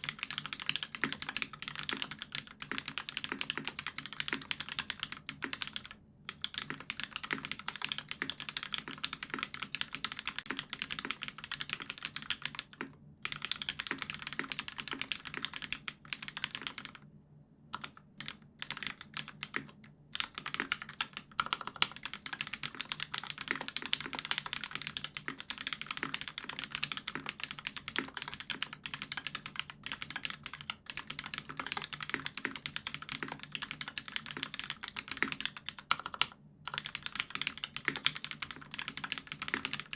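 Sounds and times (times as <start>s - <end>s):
mechanical keyboard typing: 0.0s - 17.0s, 17.7s - 39.9s.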